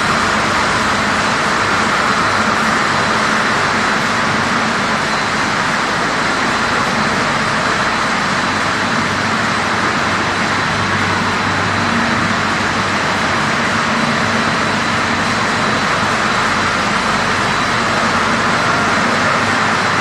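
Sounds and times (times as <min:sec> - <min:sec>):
factory machinery din: 0:00.0 - 0:20.0
high whine: 0:00.0 - 0:20.0.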